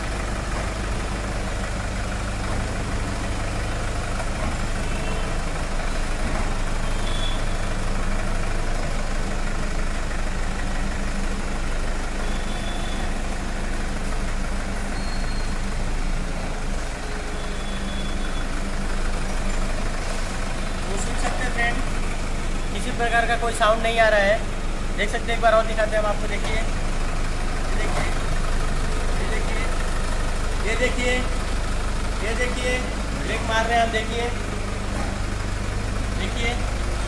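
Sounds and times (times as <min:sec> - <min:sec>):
suv engine running: 0:00.0 - 0:37.0.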